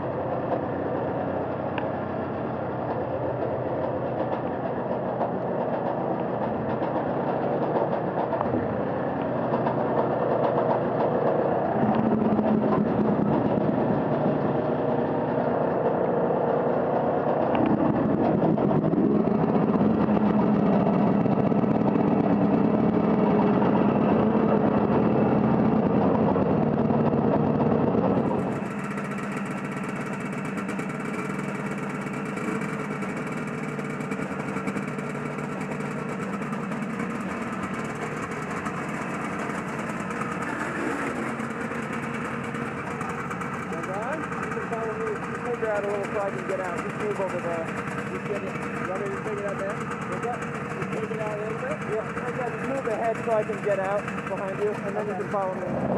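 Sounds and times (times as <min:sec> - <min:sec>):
two-stroke snowmobile engines idling: 0:00.0 - 0:55.9.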